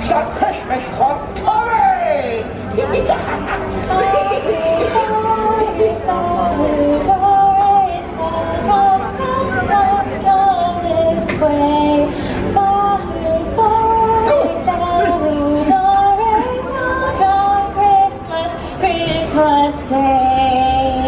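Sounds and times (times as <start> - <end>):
woman singing: 3.8 - 21.0.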